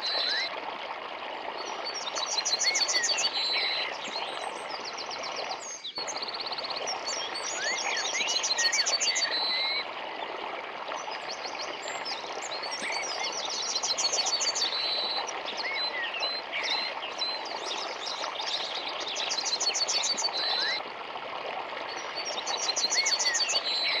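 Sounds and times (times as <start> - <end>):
stream running: 0.0 - 24.0.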